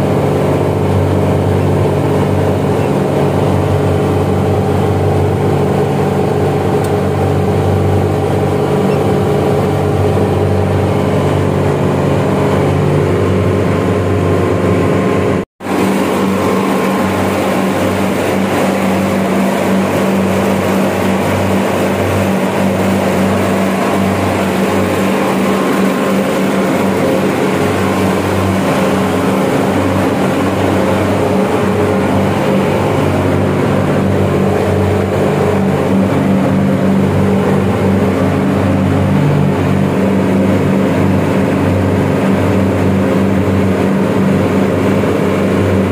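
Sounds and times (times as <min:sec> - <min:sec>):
chiller machinery humming: 0:00.0 - 0:45.9.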